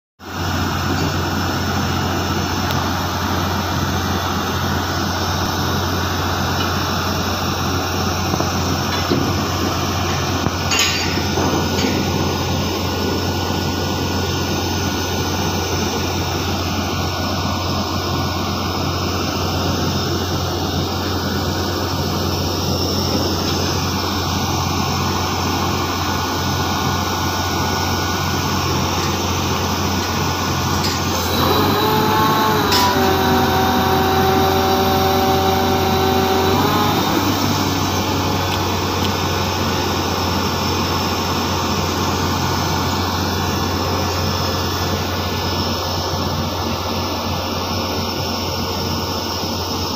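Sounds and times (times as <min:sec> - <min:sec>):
diesel machinery humming: 0:00.2 - 0:49.9.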